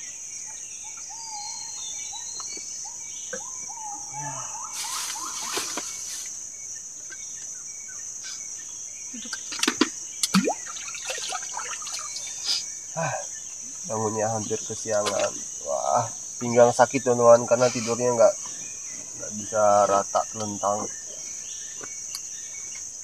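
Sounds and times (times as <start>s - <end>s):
insects chirring: 0.0s - 23.0s
bird calling: 0.8s - 6.3s, 7.0s - 22.8s.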